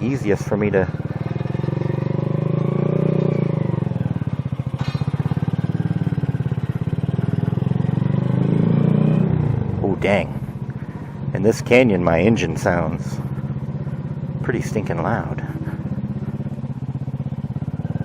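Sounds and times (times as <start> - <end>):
motorcycle engine running under load: 0.0 - 18.0.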